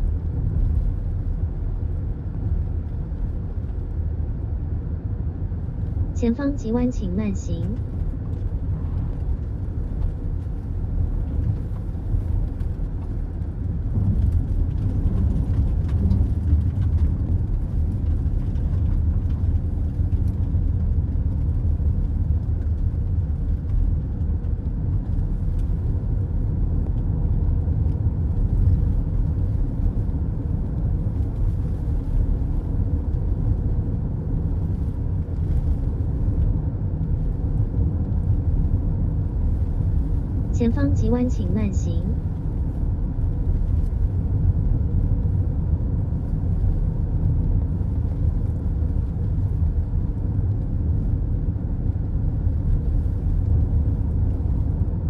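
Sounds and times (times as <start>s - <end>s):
car cabin road rumble: 0.0s - 6.4s, 7.5s - 55.0s.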